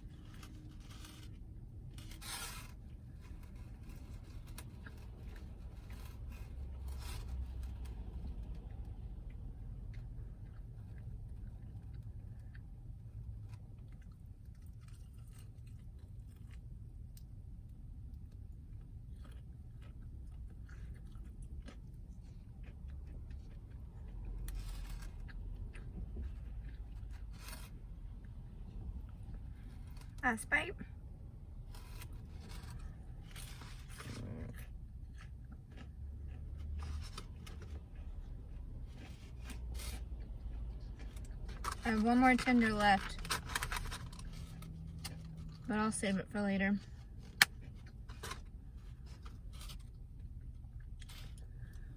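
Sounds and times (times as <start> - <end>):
person chewing food: 0.0 - 30.2, 31.0 - 41.8, 46.9 - 51.9
low steady hum: 0.0 - 51.9.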